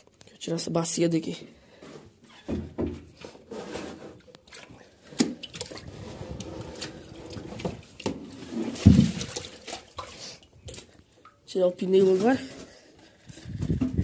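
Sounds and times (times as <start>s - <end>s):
plastic basins knocking and scraping: 1.8s - 11.1s, 11.9s - 14.0s.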